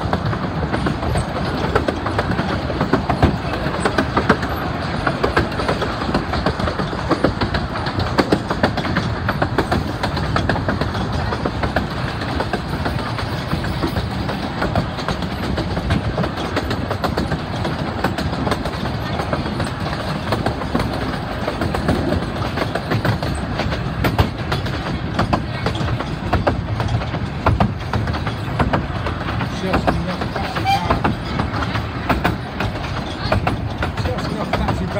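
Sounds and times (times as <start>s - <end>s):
train carriages rumbling: 0.0s - 34.9s
wheels clacking on rails: 0.0s - 34.9s.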